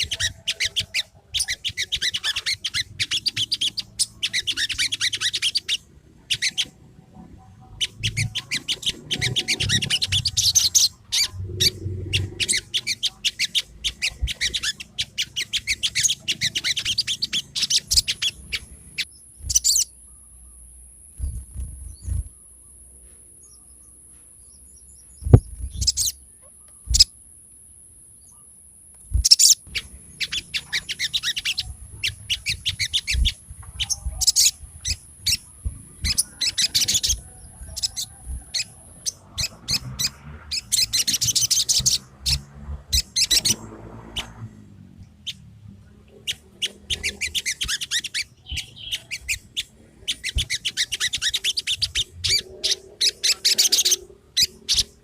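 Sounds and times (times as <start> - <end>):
songbird chirps and trills: 0.0 - 55.0.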